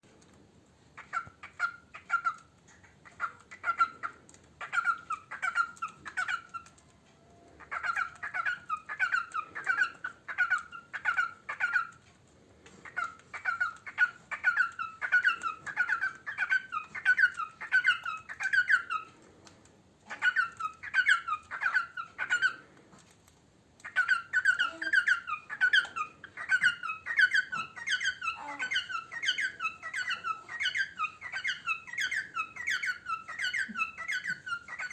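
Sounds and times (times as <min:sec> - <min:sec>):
cockatiel squeaky chirps: 0:01.0 - 0:06.9, 0:07.6 - 0:12.0, 0:12.8 - 0:19.2, 0:20.0 - 0:22.7, 0:23.8 - 0:34.9.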